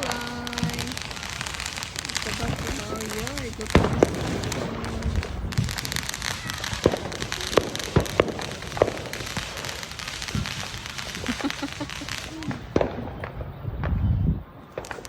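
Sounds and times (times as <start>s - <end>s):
firework pops: 0.0s - 15.0s
fireworks crackling: 0.0s - 15.0s.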